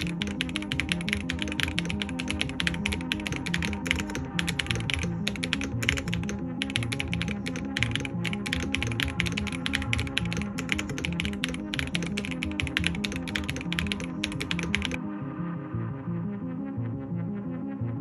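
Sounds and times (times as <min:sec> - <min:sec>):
fast typing on mechanical keyboard: 0:00.0 - 0:15.0
background music: 0:00.0 - 0:18.0.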